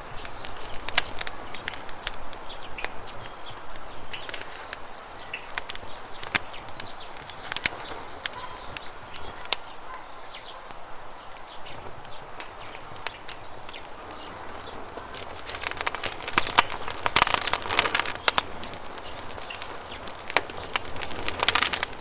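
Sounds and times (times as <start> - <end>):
bird chirps: 0.0 - 21.4
campfire crackling and popping: 0.0 - 22.0.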